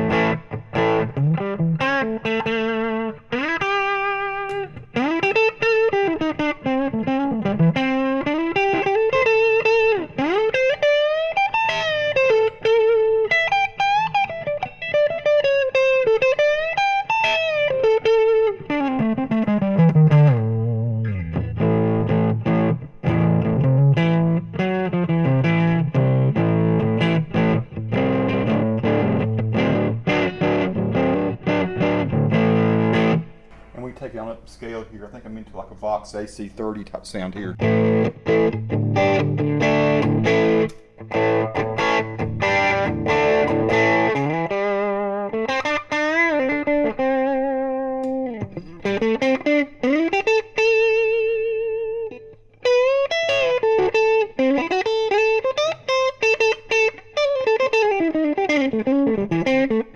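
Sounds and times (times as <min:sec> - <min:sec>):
electric guitar blues lead: 0:00.0 - 0:33.8, 0:37.2 - 0:59.9
low guitar rhythm chords: 0:00.0 - 0:59.9.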